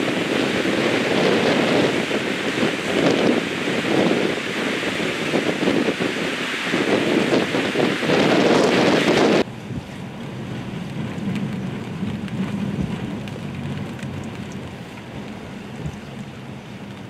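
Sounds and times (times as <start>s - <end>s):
low wind rumble: 0.0s - 17.0s
wind gusting on microphone: 0.0s - 17.0s.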